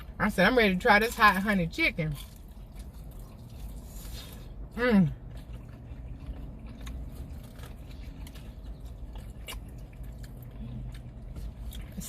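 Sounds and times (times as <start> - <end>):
chewing crispy fried chicken: 0.0 - 12.0.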